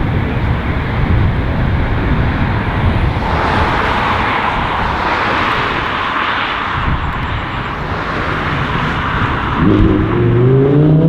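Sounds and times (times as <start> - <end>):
sports car driving by: 0.0 - 11.0.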